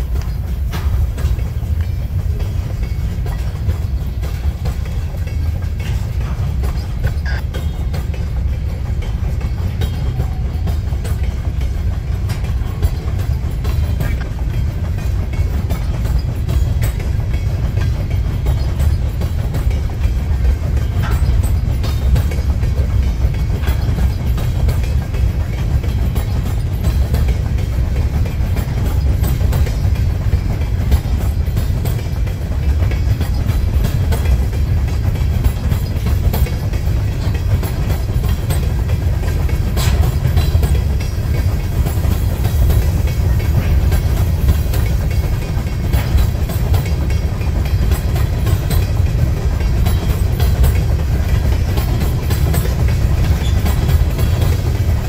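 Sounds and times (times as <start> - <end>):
freight train rumbling past: 0.0 - 55.0
steel wheels clicking over rail: 0.0 - 55.0.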